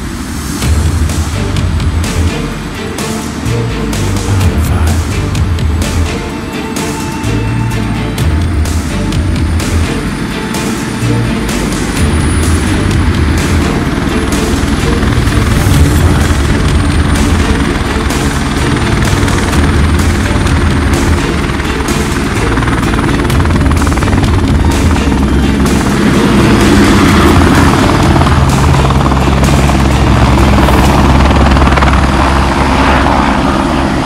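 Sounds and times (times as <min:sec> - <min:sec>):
helicopter rotors and engines: 0:00.0 - 0:34.0
music playing: 0:00.0 - 0:34.0.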